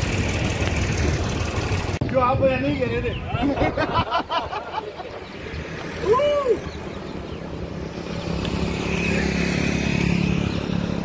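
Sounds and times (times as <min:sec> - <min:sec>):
bicycle road noise: 0:00.0 - 0:11.0.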